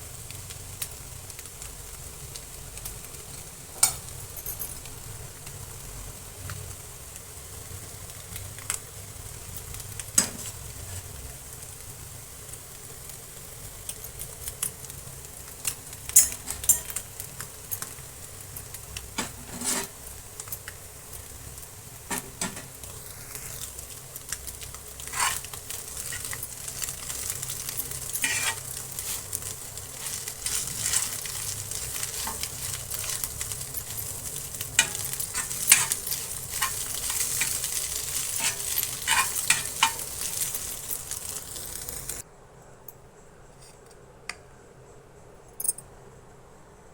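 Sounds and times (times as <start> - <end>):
food sizzling in a pan: 0.0 - 42.2.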